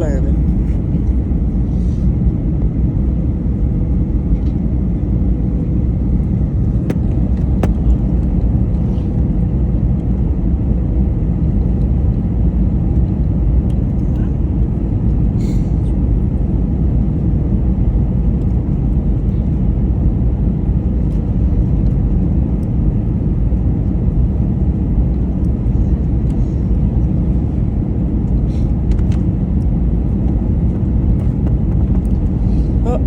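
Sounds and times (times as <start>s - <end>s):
airliner cabin noise: 0.0s - 33.0s.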